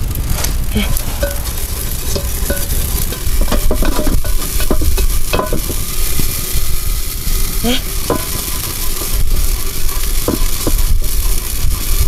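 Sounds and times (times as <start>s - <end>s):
grains hissing and rustling in a pot: 0.0s - 12.0s.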